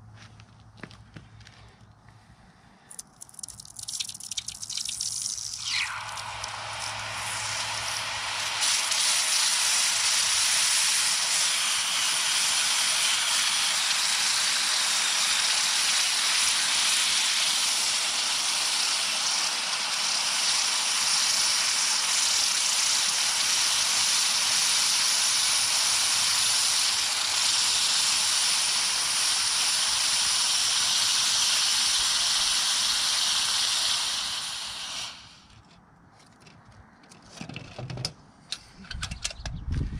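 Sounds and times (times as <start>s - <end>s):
hot metal hissing in water: 2.9s - 35.5s.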